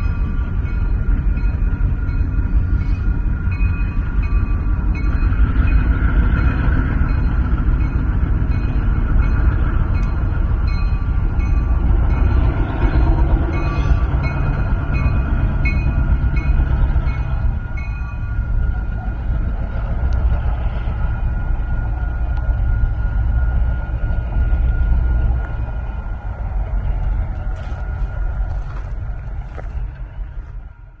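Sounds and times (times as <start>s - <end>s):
train rumbling by: 0.0s - 31.0s.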